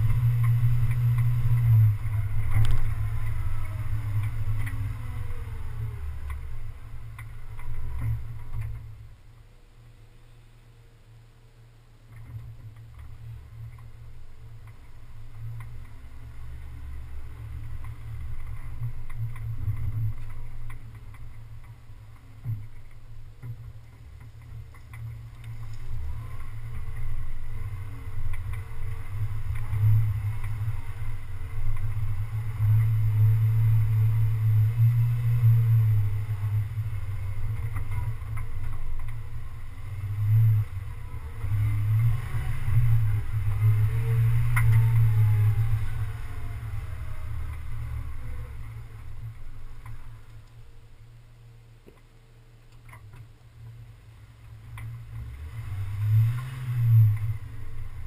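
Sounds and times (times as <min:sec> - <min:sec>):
off-road vehicle engine rumble: 0:00.0 - 0:58.0.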